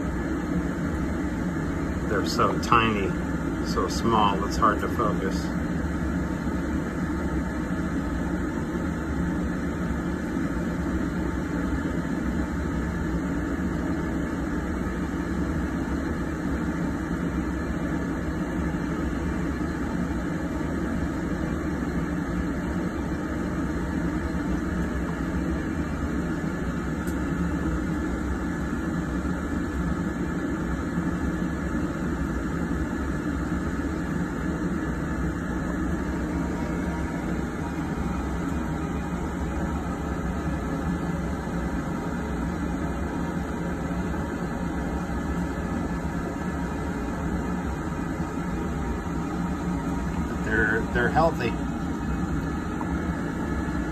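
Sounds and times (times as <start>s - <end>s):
low machine hum with rushing: 0.0s - 53.9s.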